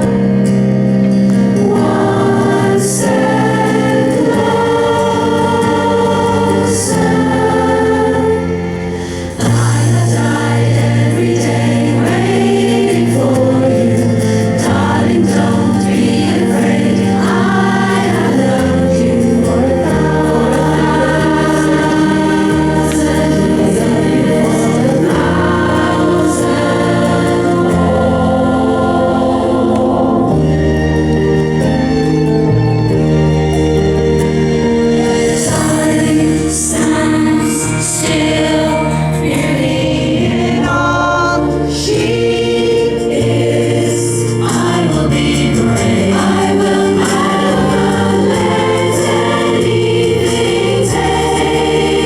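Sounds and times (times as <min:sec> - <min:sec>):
choir singing held chords: 0:00.0 - 0:52.0.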